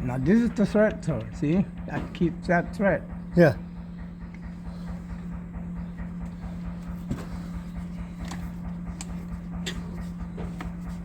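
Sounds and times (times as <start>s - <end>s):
low mechanical motor hum: 0.0s - 11.0s.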